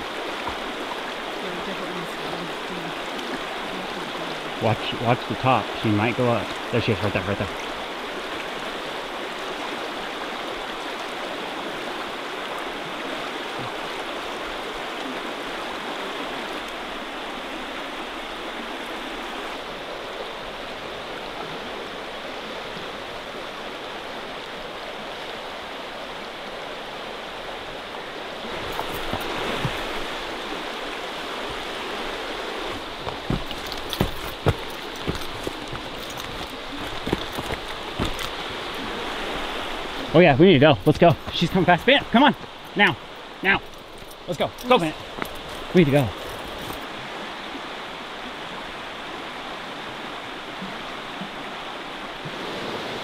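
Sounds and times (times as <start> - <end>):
river water rushing over rocks: 0.0 - 53.0.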